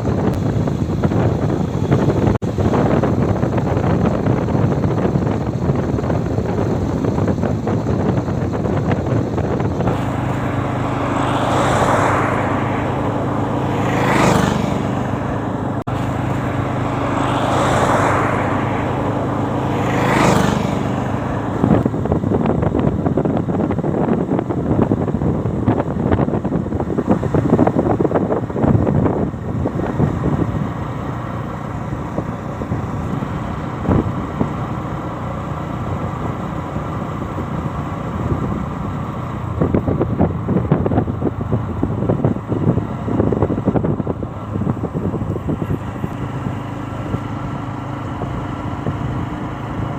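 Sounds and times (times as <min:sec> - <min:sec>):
motorcycle engine humming: 0:00.0 - 0:49.9
road noise: 0:00.0 - 0:49.9
wind buffeting microphone: 0:00.0 - 0:49.9.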